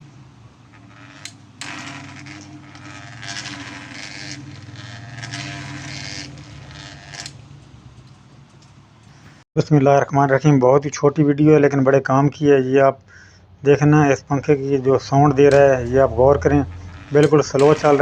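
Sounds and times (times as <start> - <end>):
fan motor droning hum: 0.0 - 9.4, 12.4 - 18.0.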